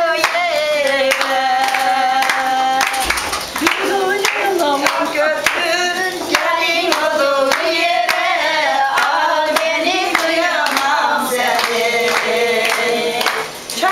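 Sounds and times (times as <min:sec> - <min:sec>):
women singing folk song: 0:00.0 - 0:13.9
hand clapping in time: 0:00.1 - 0:13.9.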